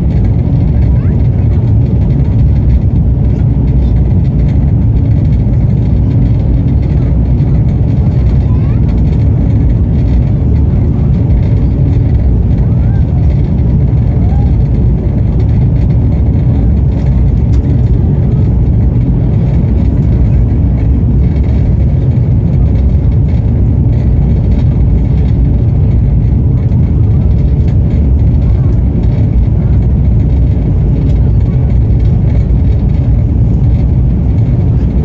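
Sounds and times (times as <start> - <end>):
train rumbling from on board: 0.0 - 35.0.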